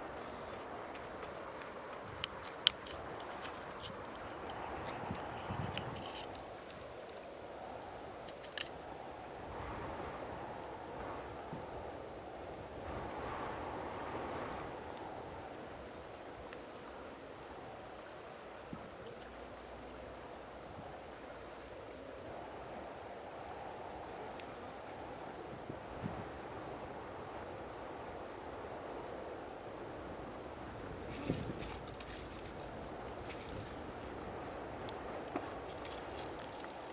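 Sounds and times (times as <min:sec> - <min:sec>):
insect chirping: 0:00.0 - 0:36.9.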